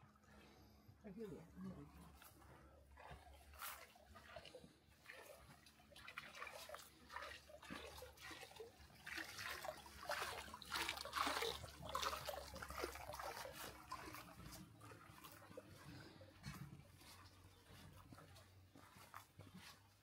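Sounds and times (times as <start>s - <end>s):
water trickling in channel: 0.0s - 20.0s.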